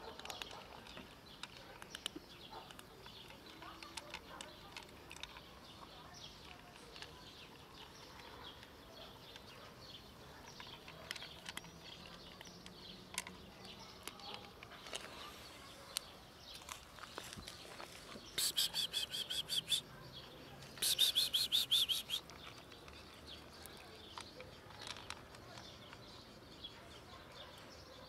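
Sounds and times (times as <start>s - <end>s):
kittens crunching dry food: 0.0s - 19.8s, 20.6s - 27.8s.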